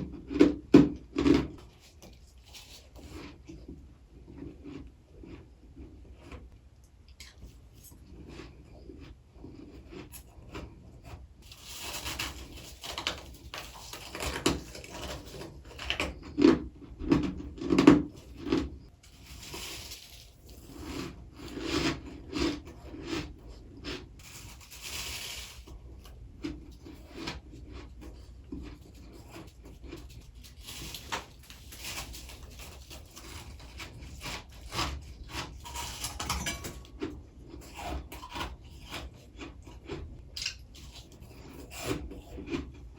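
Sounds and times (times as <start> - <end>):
chewing crunchy frost: 0.0 - 42.9.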